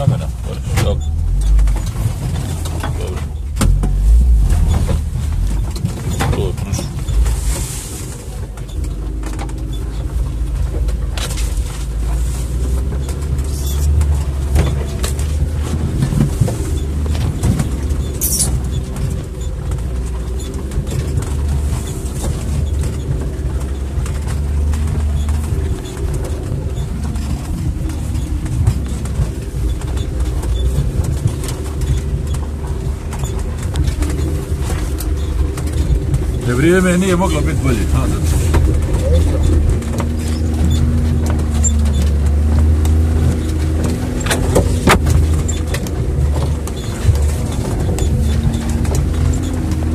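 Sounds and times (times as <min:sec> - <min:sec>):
vehicle engine running at low revs: 0:00.0 - 0:49.9
vehicle knocks and rattles: 0:00.0 - 0:49.9.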